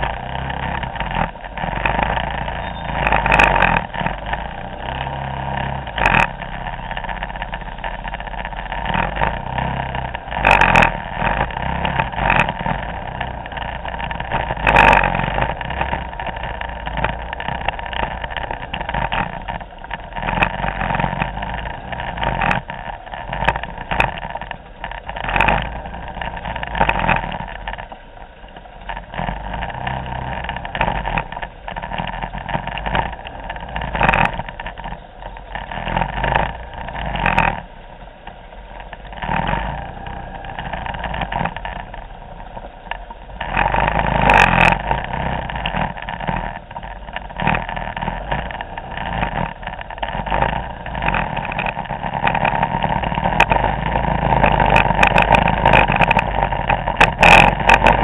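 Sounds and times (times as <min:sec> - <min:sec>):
scooter engines at low speed: 0:00.0 - 0:58.0.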